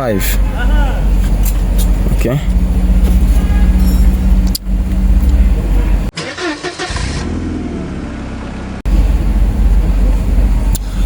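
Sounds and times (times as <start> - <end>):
vehicle engine running: 0.0 - 6.1, 7.2 - 11.0.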